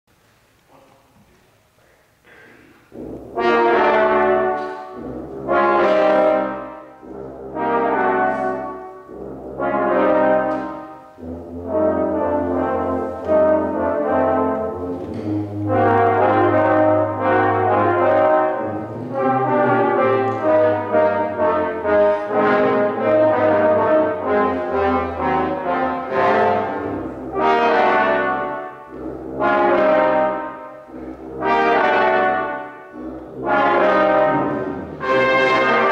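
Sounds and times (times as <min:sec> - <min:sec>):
low tuba notes: 0:00.6 - 0:35.9
brass ensemble playing jazz: 0:02.9 - 0:35.9.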